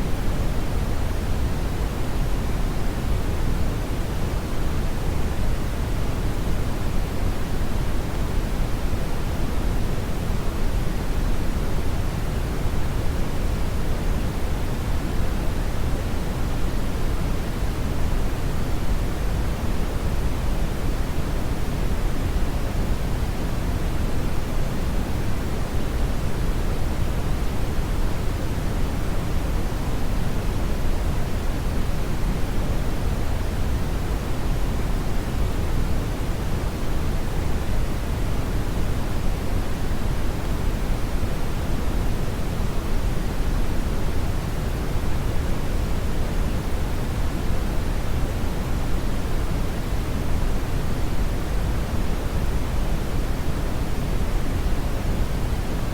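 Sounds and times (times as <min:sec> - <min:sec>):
brown noise hiss: 0:00.0 - 0:55.9.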